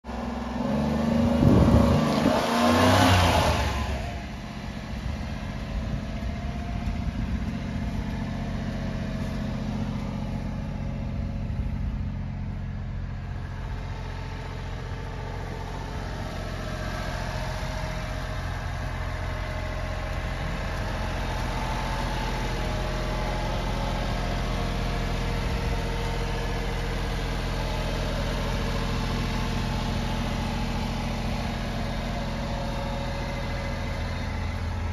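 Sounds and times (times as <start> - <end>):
small truck engine idling: 0.0 - 34.9.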